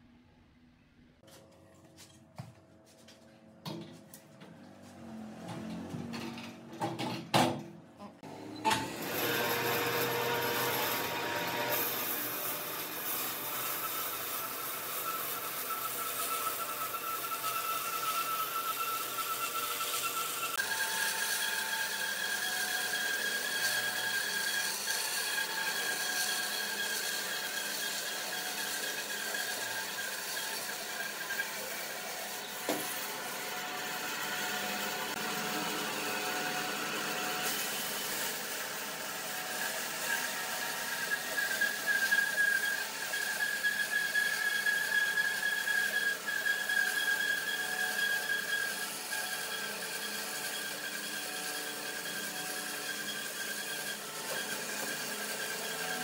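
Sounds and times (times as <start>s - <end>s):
power tool cutting wood: 4.7s - 7.1s, 8.2s - 56.0s.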